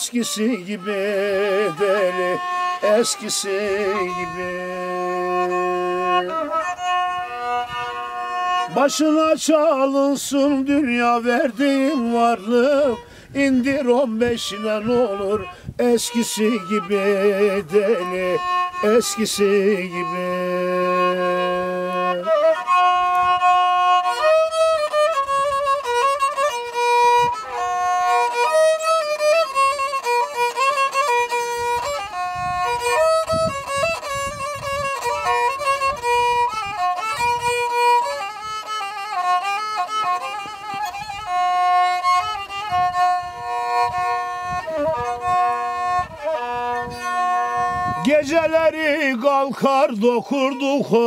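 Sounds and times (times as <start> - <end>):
solo violin folk melody: 0.0 - 51.0.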